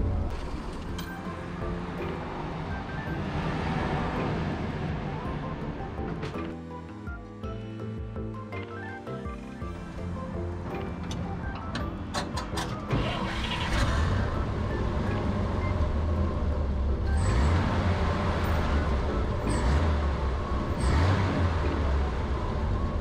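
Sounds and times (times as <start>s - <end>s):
engine rumbling and revving: 0.0s - 6.8s, 9.4s - 23.0s.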